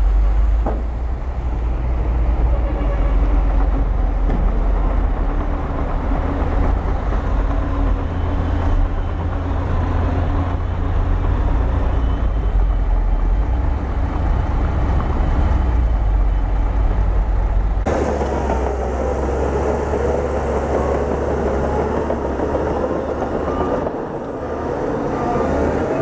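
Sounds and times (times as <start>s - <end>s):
bulldozer diesel engine rumbling: 0.0s - 26.0s.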